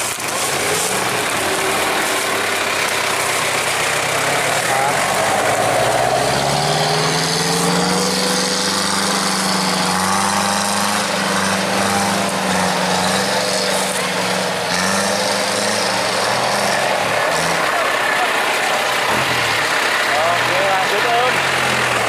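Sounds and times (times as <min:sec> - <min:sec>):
vehicle engine running at raised revs: 0:00.0 - 0:22.0.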